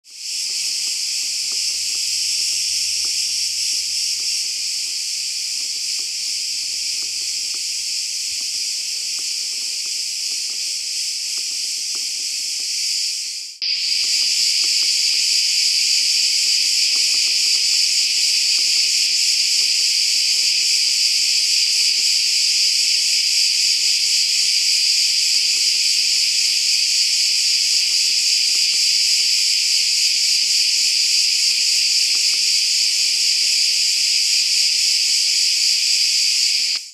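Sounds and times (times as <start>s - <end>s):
cicadas buzzing: 0.0s - 36.9s.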